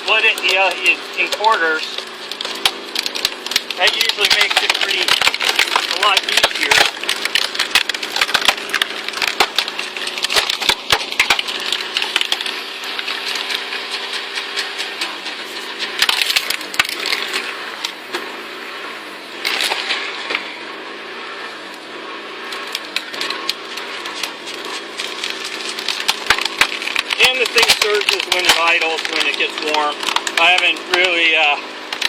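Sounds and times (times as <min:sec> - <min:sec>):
wood cracking and splintering: 0:00.0 - 0:20.6, 0:21.2 - 0:32.0
engine humming: 0:00.0 - 0:32.0.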